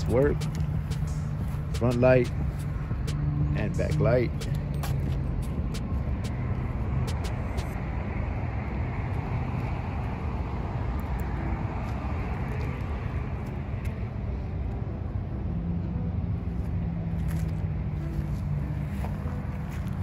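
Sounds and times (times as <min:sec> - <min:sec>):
low engine hum: 0:00.0 - 0:20.0
road traffic rushing: 0:00.0 - 0:20.0.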